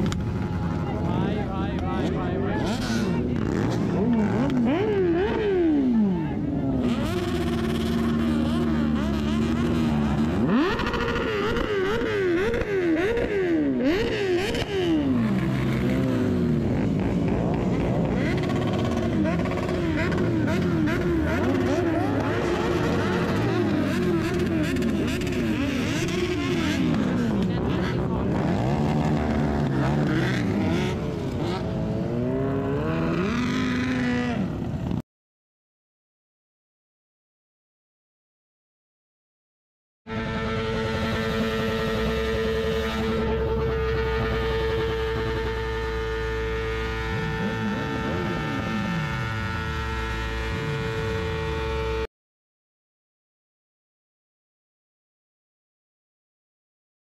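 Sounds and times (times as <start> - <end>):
motorcycle engine revving: 0.0 - 35.0, 40.1 - 52.1.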